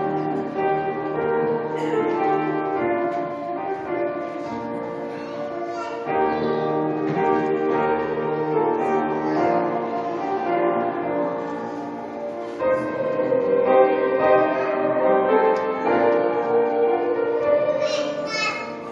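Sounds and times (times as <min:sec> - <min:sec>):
children singing: 0:00.0 - 0:18.9
piano accompaniment: 0:00.0 - 0:18.9.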